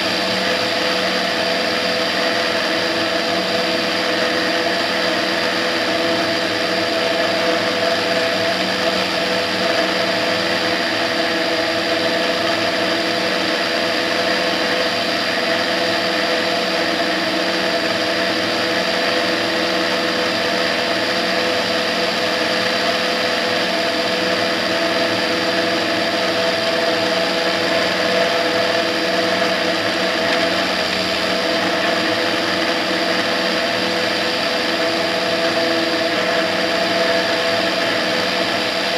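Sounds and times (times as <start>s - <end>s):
aircraft engine drone: 0.0s - 38.9s.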